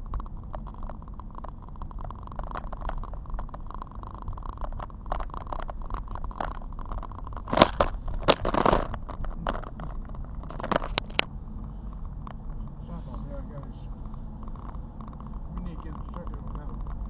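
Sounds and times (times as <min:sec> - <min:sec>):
clatter and rustle: 0:00.0 - 0:17.0
low road rumble: 0:00.0 - 0:17.0
rain ticks and taps: 0:00.0 - 0:17.0.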